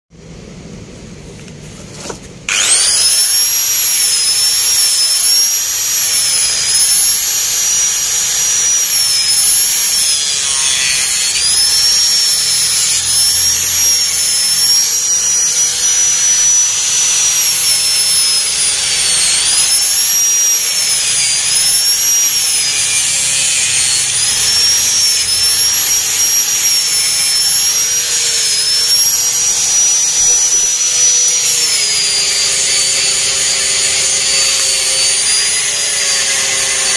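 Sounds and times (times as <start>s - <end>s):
angle grinder whining: 2.0s - 36.9s.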